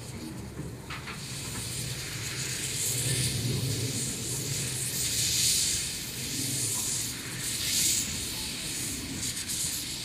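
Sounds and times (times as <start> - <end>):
steam hissing: 0.9 - 10.0.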